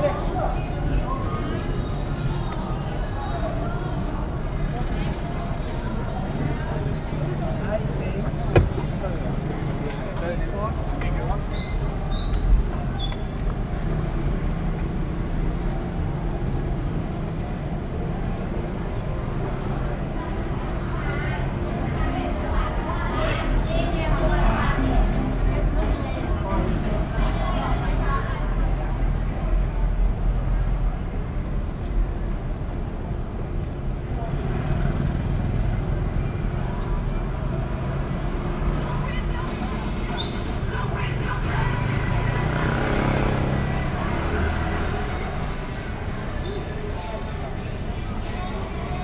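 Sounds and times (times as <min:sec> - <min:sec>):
faint indistinct voices: 0:00.0 - 0:49.0
street traffic rumble: 0:00.0 - 0:49.0.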